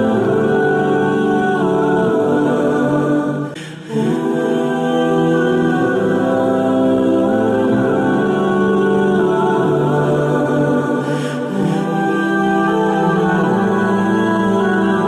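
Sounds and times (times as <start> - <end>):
choir-like pad music: 0.0 - 15.0.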